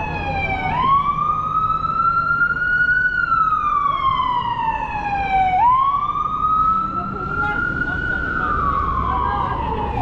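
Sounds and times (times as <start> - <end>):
emergency vehicle siren wailing: 0.0 - 10.0.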